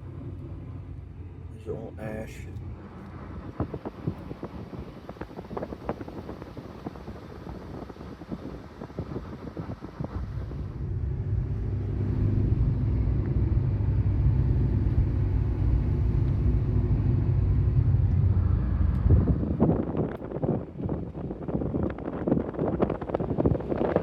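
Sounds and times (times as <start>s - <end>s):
vehicle engine rumbling: 0.0s - 24.0s
wind gusts on microphone: 2.0s - 24.0s.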